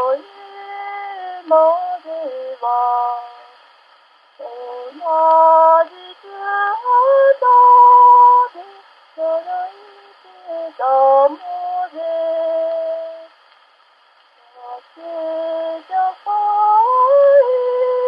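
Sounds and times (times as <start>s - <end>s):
woman singing slow melody: 0.0s - 3.6s, 4.3s - 13.4s, 14.4s - 18.0s.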